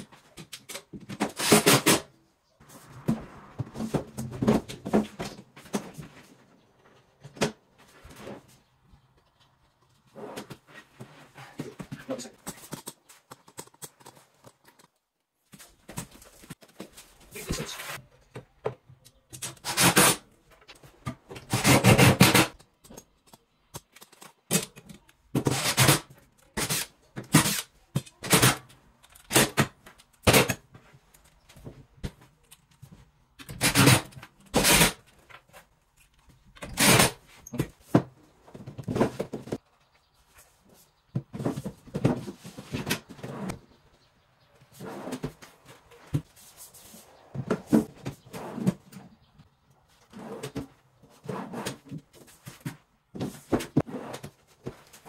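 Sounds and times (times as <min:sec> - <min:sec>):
wardrobe parts knocking and scraping: 0:02.6 - 0:55.0.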